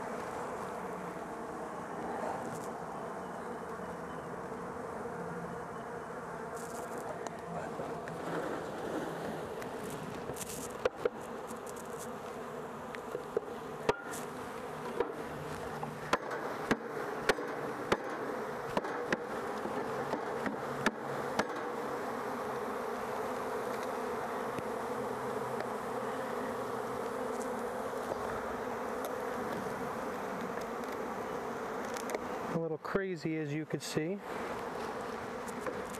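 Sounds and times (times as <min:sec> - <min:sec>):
bees buzzing: 0:00.0 - 0:35.9.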